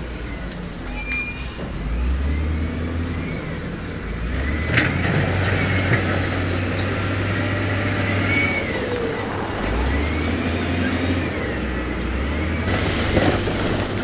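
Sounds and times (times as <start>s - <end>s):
diesel machinery engine droning: 0.0s - 14.0s.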